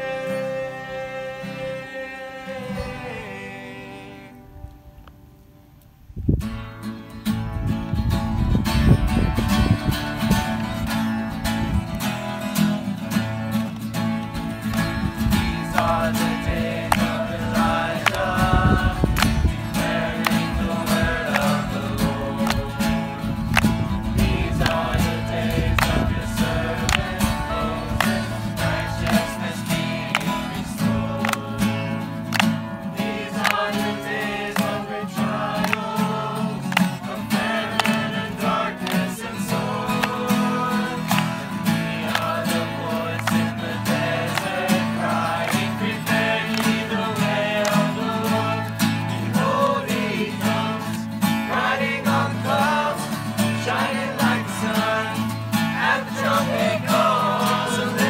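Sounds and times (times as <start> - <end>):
group of voices singing: 0.0 - 4.7, 12.5 - 58.0
acoustic guitars strumming: 0.0 - 4.9, 6.4 - 58.0.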